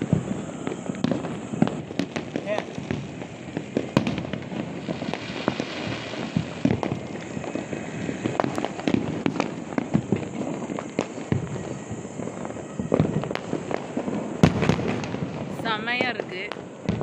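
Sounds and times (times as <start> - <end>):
firecrackers and fireworks bursting: 0.0 - 17.0.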